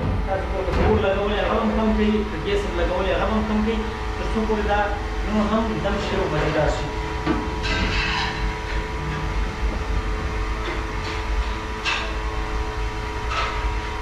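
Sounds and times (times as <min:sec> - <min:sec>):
low machine rumble with hum: 0:00.0 - 0:14.0.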